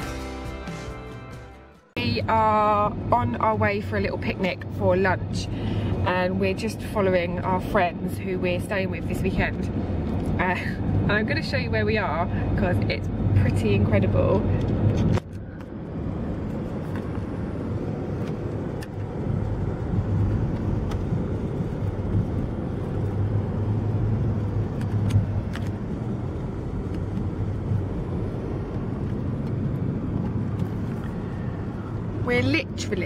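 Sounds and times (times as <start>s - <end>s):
road and engine rumble: 0.0s - 33.0s.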